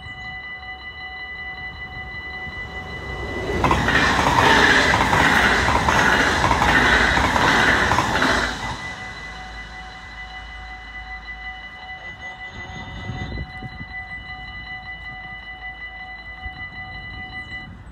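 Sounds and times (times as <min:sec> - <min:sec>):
level crossing warning signal: 0:00.0 - 0:17.9
train passing at speed: 0:01.0 - 0:17.9.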